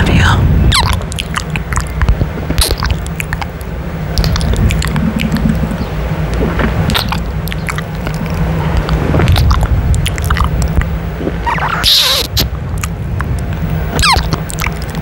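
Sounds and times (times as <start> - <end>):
steady low rumble: 0.0 - 15.0
lips kissing and smacking: 0.7 - 5.7, 6.3 - 15.0.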